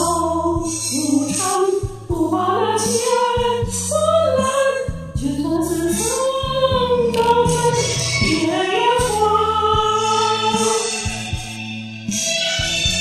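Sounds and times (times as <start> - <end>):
woman singing a ballad: 0.0 - 10.9
karaoke backing track: 0.0 - 13.0.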